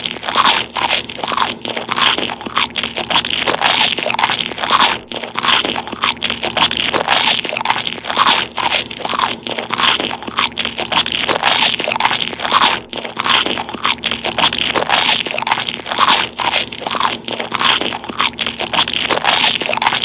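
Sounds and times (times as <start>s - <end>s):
person chewing gum: 0.0s - 20.0s.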